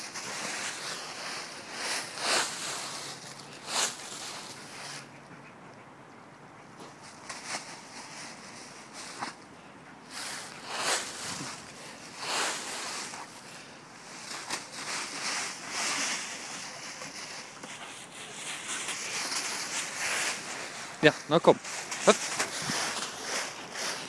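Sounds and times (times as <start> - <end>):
dry leaves rustling: 0.0 - 5.2, 6.8 - 9.4, 10.0 - 24.0.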